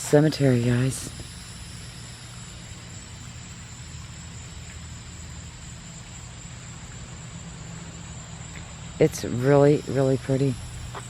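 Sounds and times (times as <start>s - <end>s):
even hiss: 0.0s - 11.0s
faint high whine: 0.0s - 11.0s
low hum: 0.0s - 11.0s.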